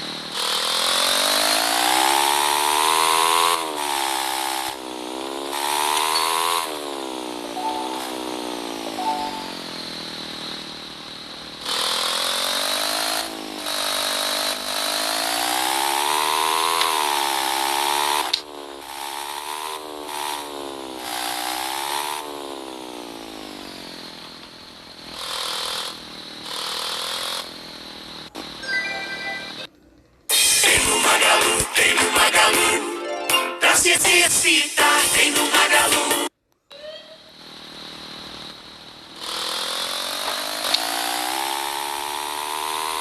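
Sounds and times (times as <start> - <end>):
small motorcycle engine revving: 0.0 - 32.7, 34.7 - 43.0.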